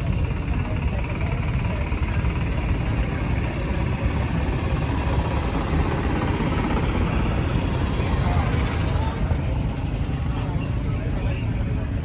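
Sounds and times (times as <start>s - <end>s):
drag racing car engine rumbling: 0.0s - 12.0s.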